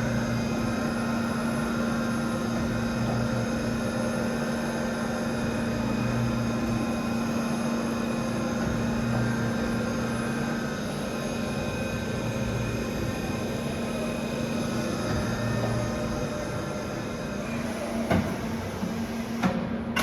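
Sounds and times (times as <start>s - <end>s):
low machine throb: 0.0s - 20.0s
machine hum with constant tones: 0.0s - 20.0s.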